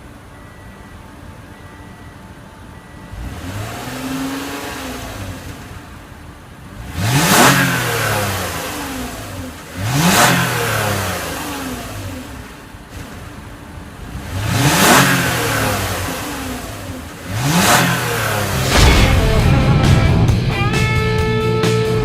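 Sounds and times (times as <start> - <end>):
car engine starting and idling: 0.0 - 22.0
car engine revving: 3.1 - 22.0.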